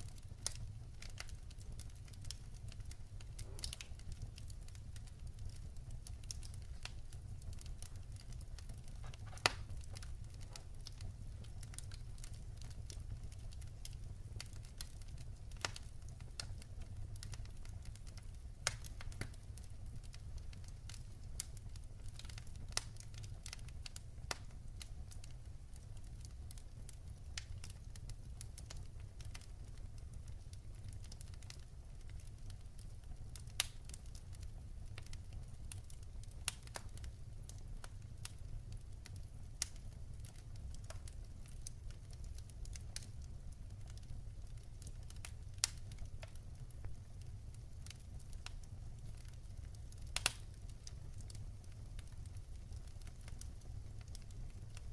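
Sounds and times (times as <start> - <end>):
fire rumbling: 0.0 - 54.9
wood fire crackling and popping: 0.0 - 54.9.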